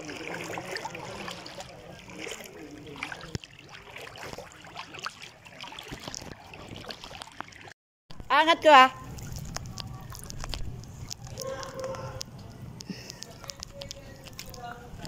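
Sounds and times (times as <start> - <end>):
floodwater sloshing and trickling: 0.0 - 15.0.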